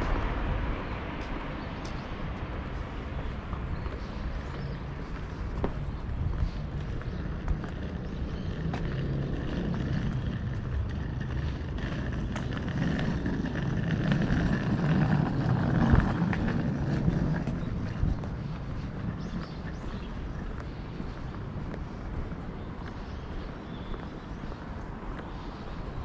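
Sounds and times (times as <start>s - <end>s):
faint footsteps clicking: 1.2s - 26.0s.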